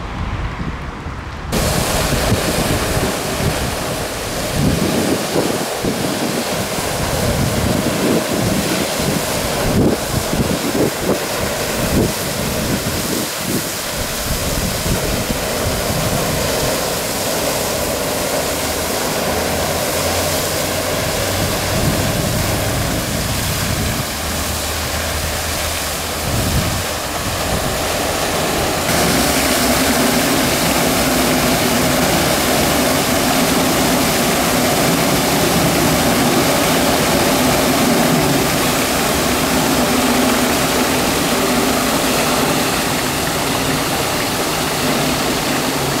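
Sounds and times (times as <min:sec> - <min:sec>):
fountain water splashing: 0:01.5 - 0:46.0.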